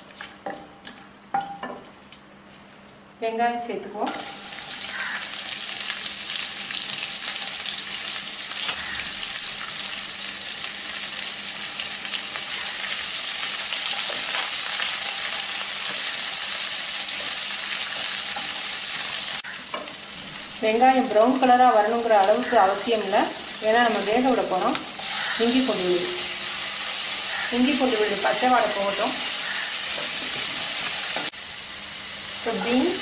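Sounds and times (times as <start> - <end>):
onion sizzling in hot oil: 4.1 - 33.0.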